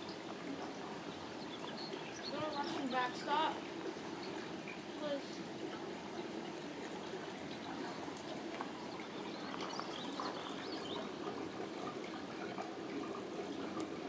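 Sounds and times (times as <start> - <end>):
creek water flowing: 0.0 - 14.0
small water splashes: 0.0 - 14.0.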